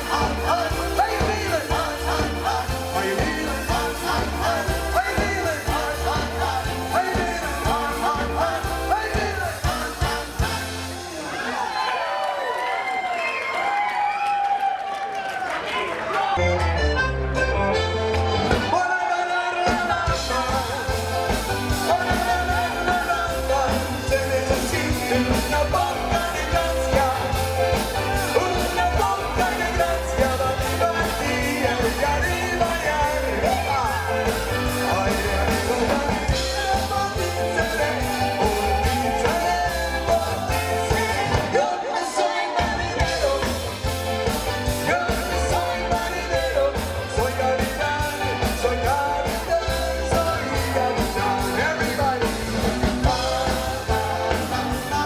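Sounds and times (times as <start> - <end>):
steady drum beat: 0.0 - 11.2, 19.7 - 41.6, 42.6 - 55.0
person singing: 0.0 - 11.3, 18.6 - 55.0
accordion: 0.0 - 11.5, 16.4 - 55.0
bass: 0.0 - 11.9, 16.4 - 41.8, 42.5 - 55.0.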